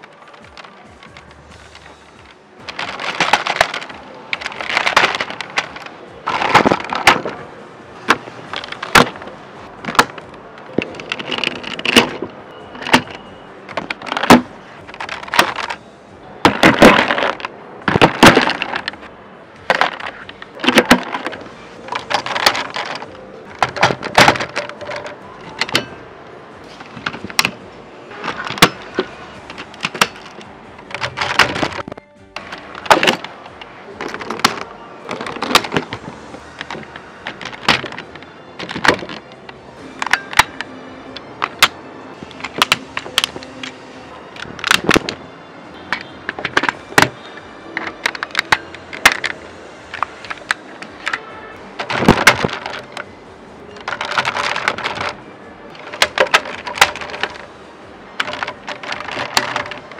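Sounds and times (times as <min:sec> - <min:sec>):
plastic toy parts clacking: 0:00.0 - 0:15.8, 0:16.4 - 0:26.0, 0:26.6 - 0:59.9.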